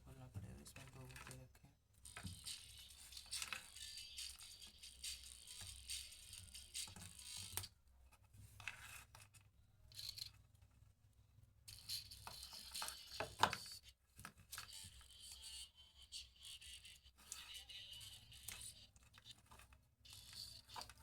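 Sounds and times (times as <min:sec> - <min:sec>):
plastic clicks and scrapes: 0:00.5 - 0:10.8, 0:11.7 - 0:21.0.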